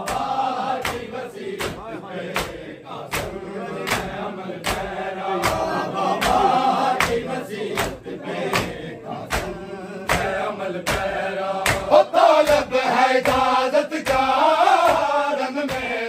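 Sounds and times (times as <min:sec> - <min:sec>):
hands slapping chests: 0:00.0 - 0:16.0
men chanting in unison: 0:00.0 - 0:16.0.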